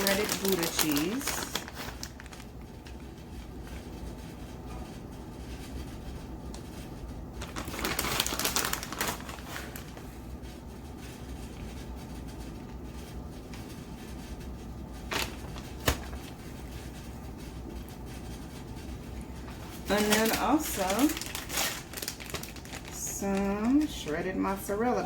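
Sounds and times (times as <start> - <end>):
plastic bag rustling: 0.0 - 25.0.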